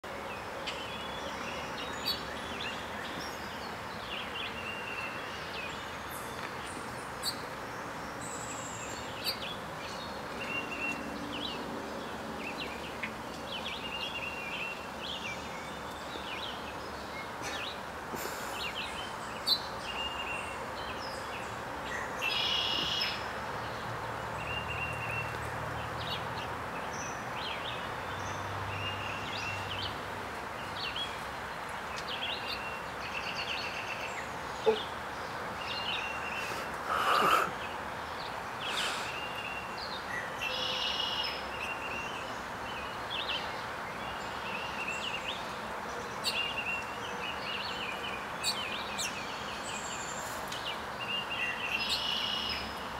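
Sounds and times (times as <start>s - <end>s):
small birds chirping: 0.0s - 52.9s
background hiss: 0.1s - 52.9s.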